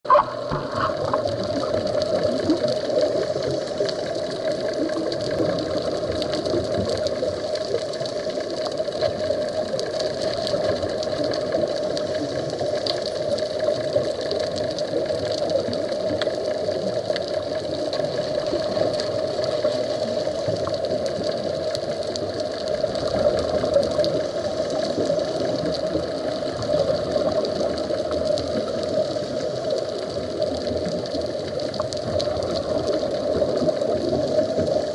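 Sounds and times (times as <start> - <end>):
faint bubbling: 0.0 - 34.9
muffled underwater whirring drone: 0.1 - 34.9.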